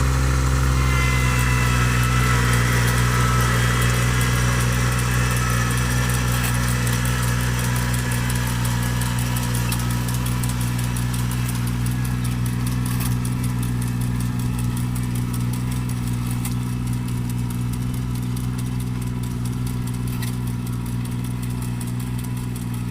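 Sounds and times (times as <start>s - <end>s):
tractor engine running: 0.0s - 22.9s.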